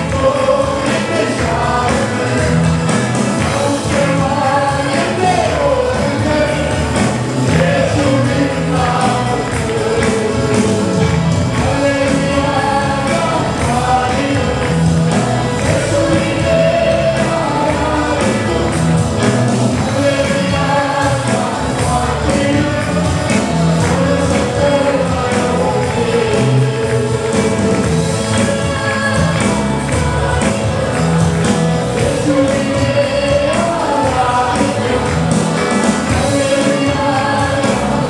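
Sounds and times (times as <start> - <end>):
band accompaniment: 0.0 - 38.0
percussion beat: 0.0 - 38.0
voices singing together: 0.0 - 38.0.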